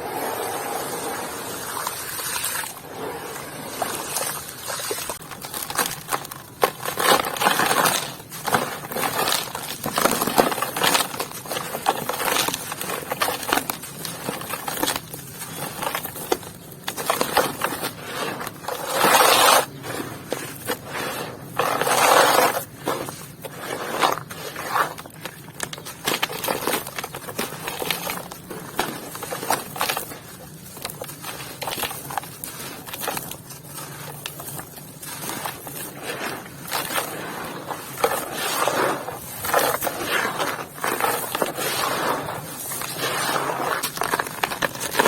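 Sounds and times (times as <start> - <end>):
dry clumps crumbling and crushed: 2.2 - 45.0.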